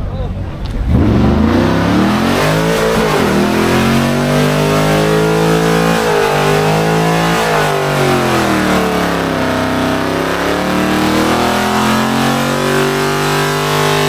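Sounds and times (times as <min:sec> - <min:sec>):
car engine revving high: 0:00.6 - 0:14.0.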